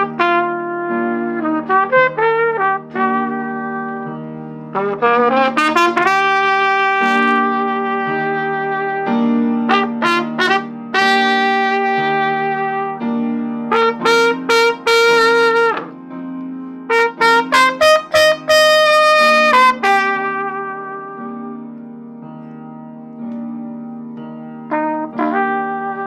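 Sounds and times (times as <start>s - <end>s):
lead instrument melody: 0.0s - 26.0s.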